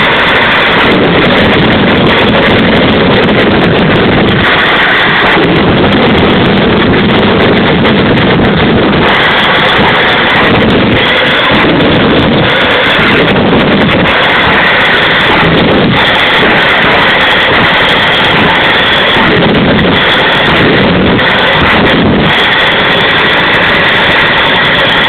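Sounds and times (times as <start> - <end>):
jet engine roaring with whine: 0.0 - 25.0.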